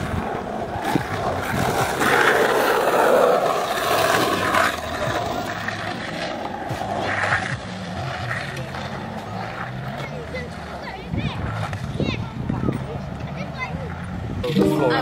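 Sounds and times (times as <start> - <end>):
skateboard wheels rolling on concrete: 0.0 - 15.0.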